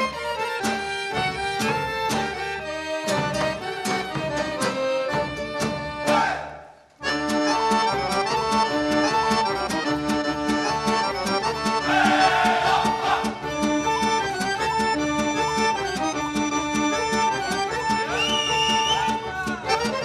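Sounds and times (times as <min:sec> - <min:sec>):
folk accordion dance tune: 0:00.0 - 0:06.4, 0:07.0 - 0:20.0.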